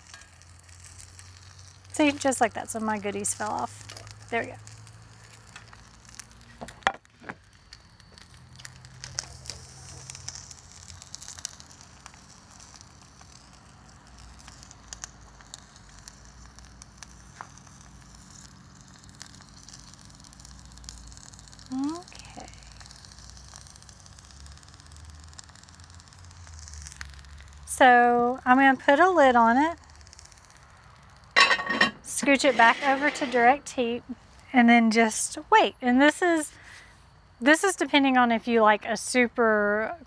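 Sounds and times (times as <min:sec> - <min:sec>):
charcoal grill crackling: 0:00.0 - 0:40.0.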